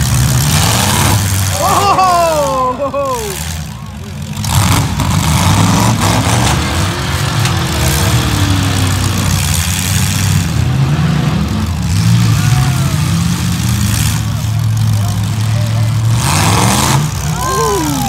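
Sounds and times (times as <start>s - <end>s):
car engines revving: 0.0s - 18.0s
exhaust noise: 0.0s - 18.0s.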